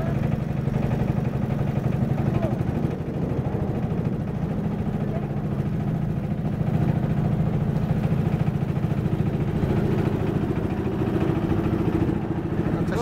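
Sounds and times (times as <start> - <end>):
boat engine throbbing: 0.0 - 13.0.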